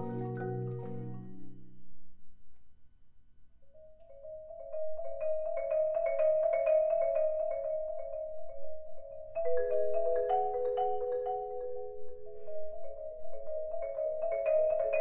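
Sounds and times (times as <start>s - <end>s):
marimba and vibraphone ensemble: 0.0s - 1.5s, 4.0s - 15.0s.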